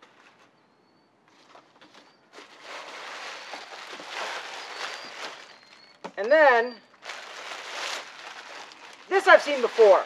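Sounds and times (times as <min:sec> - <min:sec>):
plastic bag crinkling: 0:01.8 - 0:10.0.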